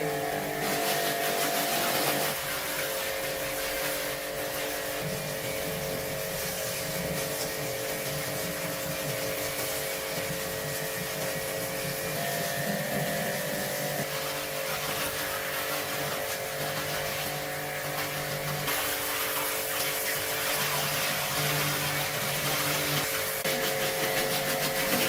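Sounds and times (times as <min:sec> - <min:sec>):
small motor running: 0:00.0 - 0:25.0.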